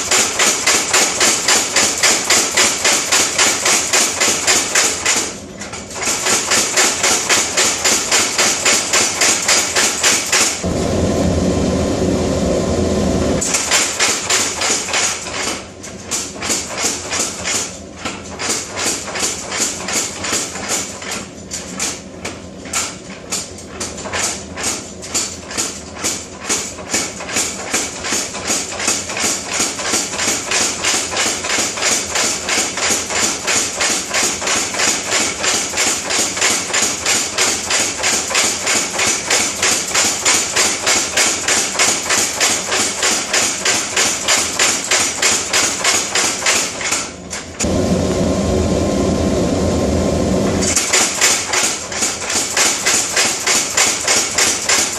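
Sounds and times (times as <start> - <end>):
power hammer pounding steel: 0.0 - 10.7, 13.4 - 21.2, 22.7 - 47.7, 50.6 - 54.9
steady loud machine noise: 0.0 - 54.9.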